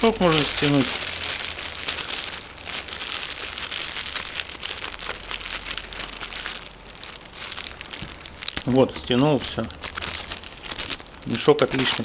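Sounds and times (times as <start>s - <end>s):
cable tie cinching: 0.0s - 12.0s
plastic bag crinkling: 0.0s - 12.0s.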